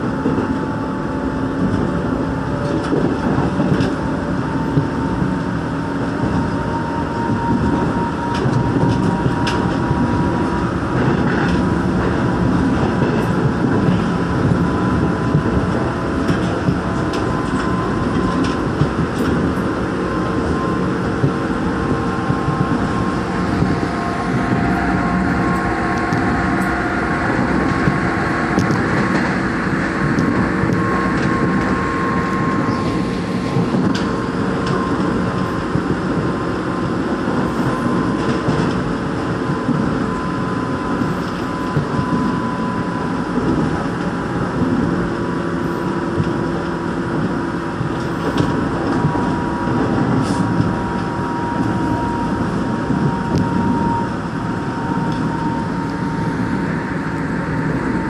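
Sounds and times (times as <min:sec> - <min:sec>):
electric train whine: 0:00.0 - 0:58.0
train clicks: 0:00.0 - 0:58.0
wheels rumbling on rail: 0:00.0 - 0:58.0.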